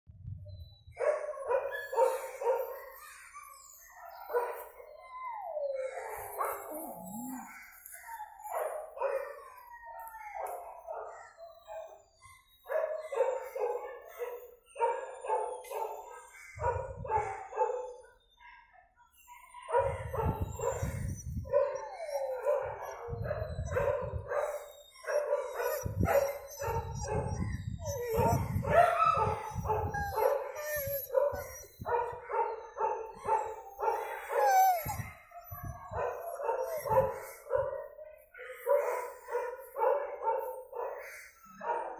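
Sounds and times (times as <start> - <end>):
dogs barking: 0.9 - 9.7, 10.3 - 18.7, 19.4 - 41.9
dogs howling: 1.2 - 16.8, 19.4 - 41.9.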